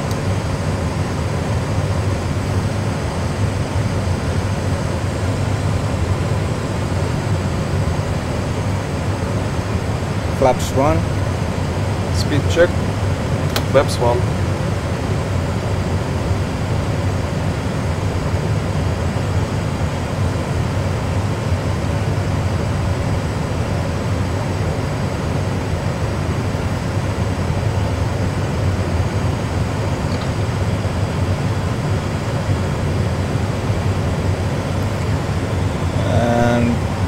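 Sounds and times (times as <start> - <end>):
cockpit engine rumble and hiss: 0.0 - 37.0.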